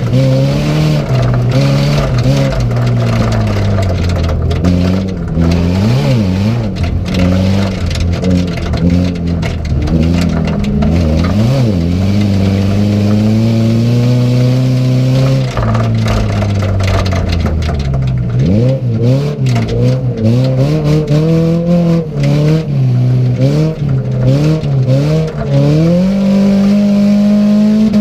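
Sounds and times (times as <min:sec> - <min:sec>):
racing car engine running hard: 0:00.0 - 0:28.0.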